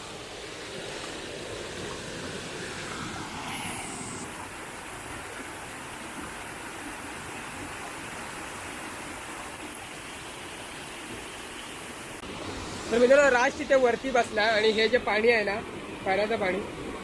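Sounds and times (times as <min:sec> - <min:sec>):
stream pouring into pool: 0:00.0 - 0:17.0.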